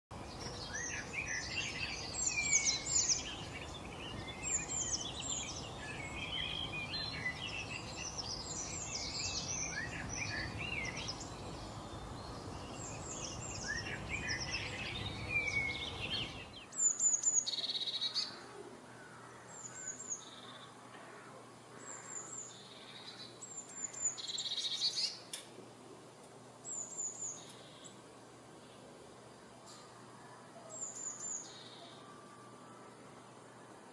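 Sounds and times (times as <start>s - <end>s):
background hiss: 0.1s - 33.9s
songbirds chorus: 0.1s - 33.9s.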